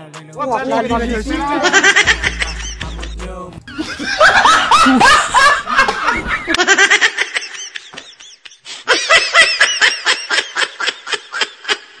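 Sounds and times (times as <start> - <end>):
rapid high-pitched laughter: 1.6 - 3.1, 3.7 - 12.0.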